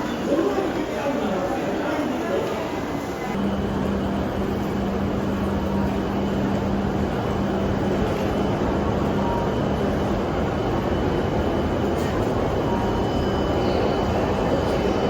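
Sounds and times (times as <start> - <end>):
train rumble and rush: 0.0 - 15.0.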